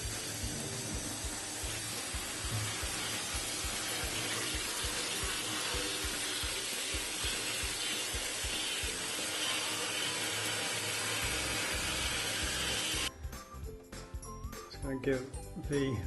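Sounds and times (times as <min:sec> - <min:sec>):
shower head spraying water: 0:00.0 - 0:13.1.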